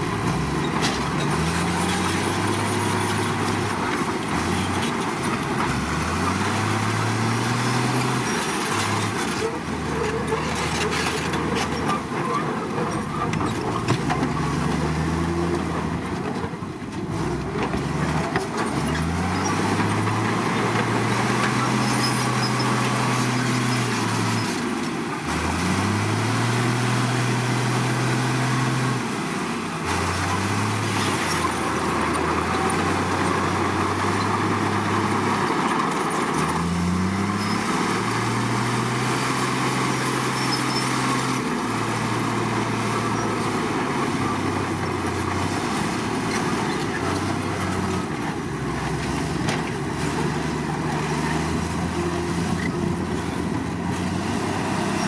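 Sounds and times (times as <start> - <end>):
bulldozer diesel engine revving: 0.0 - 16.4, 17.0 - 55.0.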